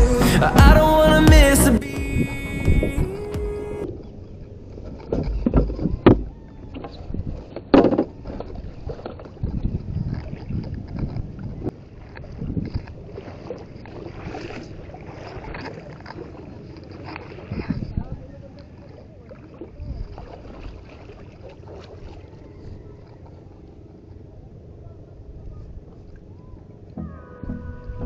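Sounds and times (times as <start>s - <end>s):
water: 0.0s - 28.0s
wind: 0.0s - 28.0s.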